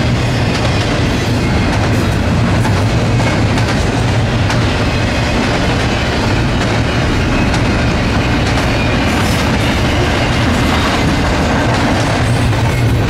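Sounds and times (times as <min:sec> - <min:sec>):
freight train wheels clacking: 0:00.0 - 0:13.0.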